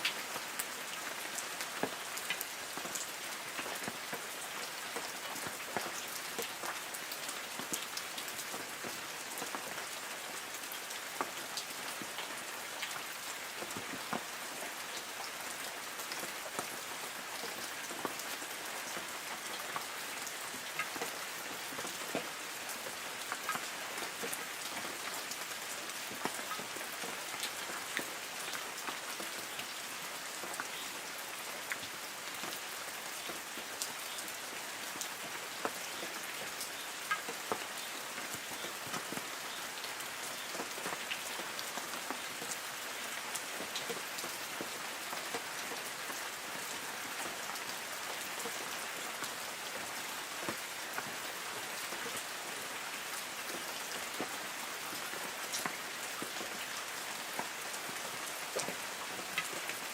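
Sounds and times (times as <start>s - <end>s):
light rain on leaves: 0.0s - 59.9s.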